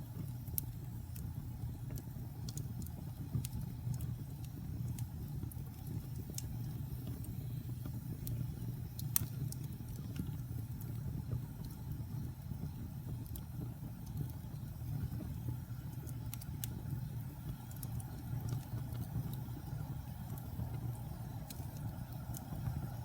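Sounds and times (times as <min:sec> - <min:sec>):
fire crackles and pops: 0:00.0 - 0:23.0
fire flames rumbling: 0:00.0 - 0:23.0.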